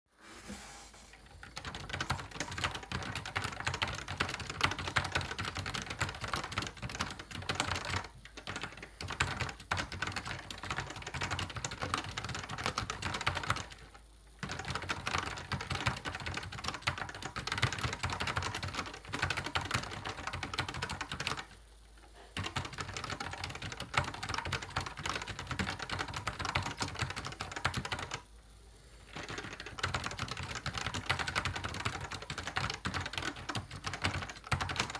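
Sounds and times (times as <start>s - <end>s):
fast keyboard typing clacks: 1.3s - 21.6s, 22.3s - 28.2s, 29.1s - 34.9s.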